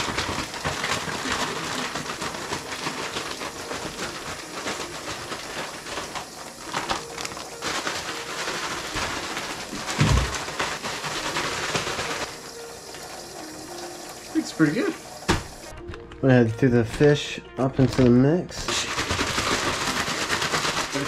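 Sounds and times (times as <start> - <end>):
plastic bag rustling and crinkling: 0.0 - 15.9, 17.8 - 21.0.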